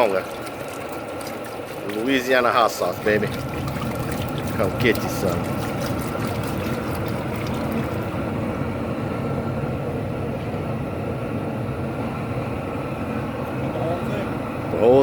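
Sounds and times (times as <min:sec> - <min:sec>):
gas burner rushing rumble: 0:01.7 - 0:15.0.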